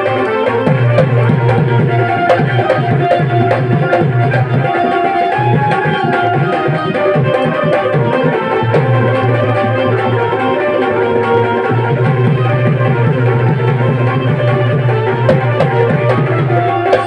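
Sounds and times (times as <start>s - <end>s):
hand drum rhythm: 0.0s - 17.0s
harmonium droning chords: 0.0s - 17.0s.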